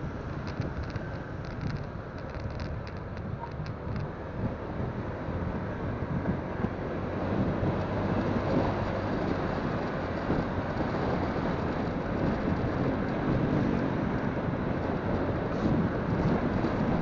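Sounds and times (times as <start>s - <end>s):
tyres on road: 0.0s - 17.0s
wind buffeting microphone: 0.0s - 17.0s.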